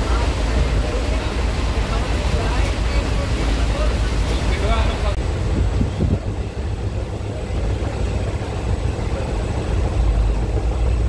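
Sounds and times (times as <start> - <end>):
train coach rumbling on track: 0.0 - 11.0.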